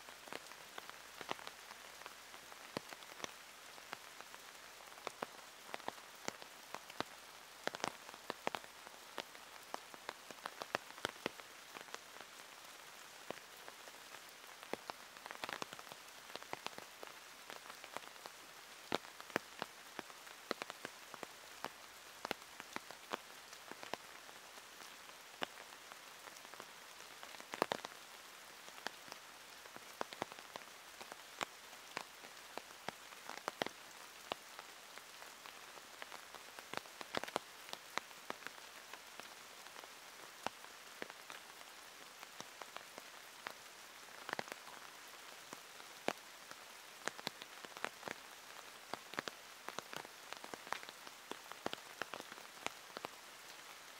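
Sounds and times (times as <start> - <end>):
pouring rain: 0.0 - 53.9
raindrops tapping close by: 0.1 - 53.9.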